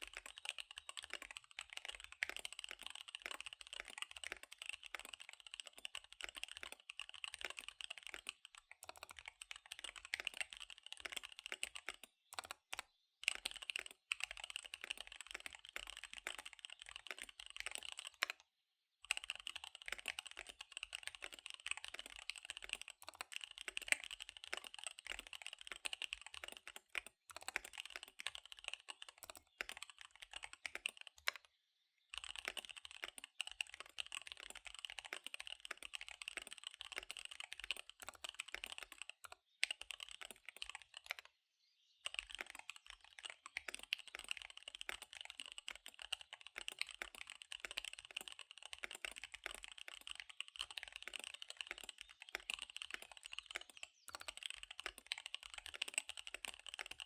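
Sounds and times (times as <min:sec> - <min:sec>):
mechanical keyboard typing: 0:00.0 - 0:18.4, 0:19.0 - 0:31.5, 0:32.1 - 0:41.3, 0:42.0 - 0:57.0.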